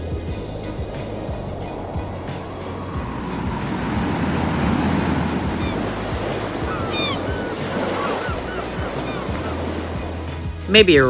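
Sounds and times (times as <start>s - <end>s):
waves washing: 0.0s - 11.0s.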